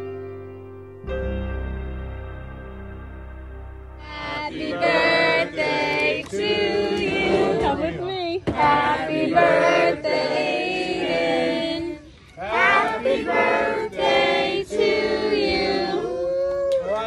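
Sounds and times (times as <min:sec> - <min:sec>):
choir singing long notes: 0:02.0 - 0:07.9, 0:08.5 - 0:16.3.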